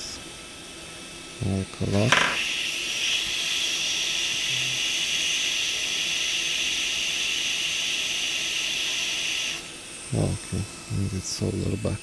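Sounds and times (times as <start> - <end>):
hot air nozzle hissing: 0.0 - 12.0.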